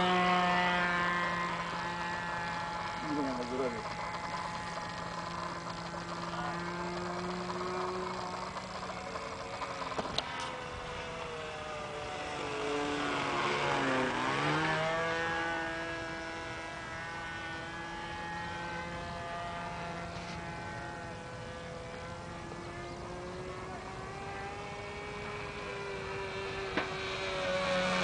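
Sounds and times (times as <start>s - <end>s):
model aircraft propeller drone: 0.0s - 28.0s.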